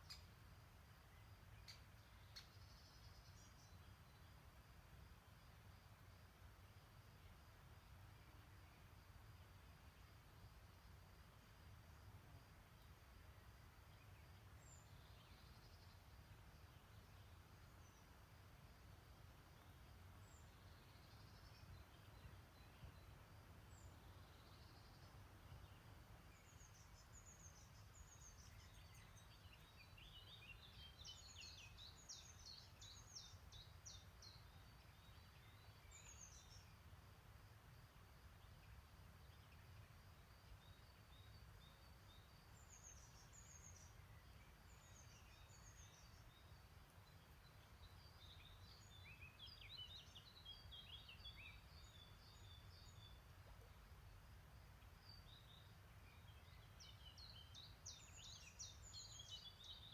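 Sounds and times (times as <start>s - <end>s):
faint songbirds singing: 0.0s - 59.9s.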